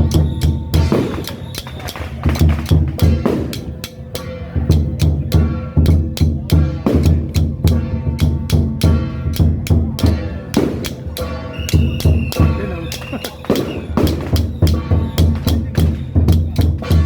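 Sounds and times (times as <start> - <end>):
bass drum beating: 0.0 - 3.8, 4.6 - 17.0
cymbal or snare strikes: 0.0 - 17.0.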